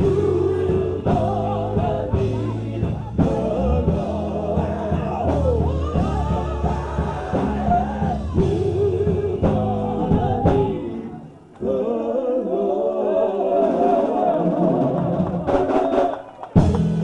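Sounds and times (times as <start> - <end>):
band with bass and drums: 0.0 - 11.7, 13.6 - 17.0
voices singing gospel: 0.0 - 16.2.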